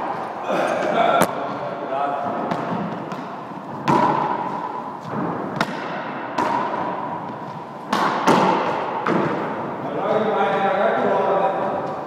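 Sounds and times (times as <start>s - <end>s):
squash ball hits echoing: 0.0s - 12.0s.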